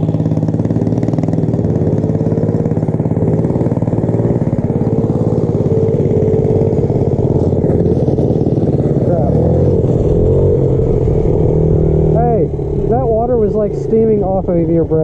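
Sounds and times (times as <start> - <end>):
small engine running: 0.0 - 15.0
wavering whine: 0.0 - 15.0.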